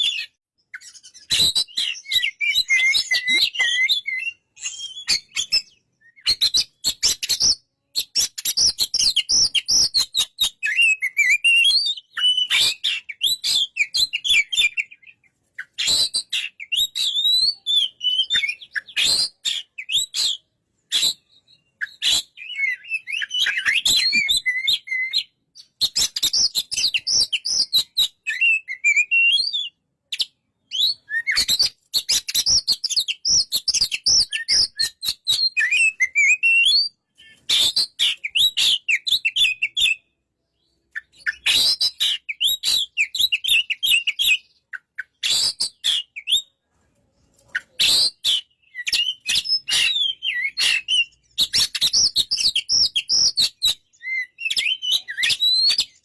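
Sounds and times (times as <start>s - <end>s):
bird singing whistled phrases: 0.0s - 46.5s, 47.6s - 56.0s.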